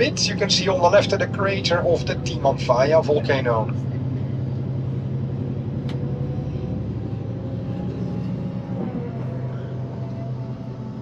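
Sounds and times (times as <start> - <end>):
coach engine low drone: 0.0 - 11.0.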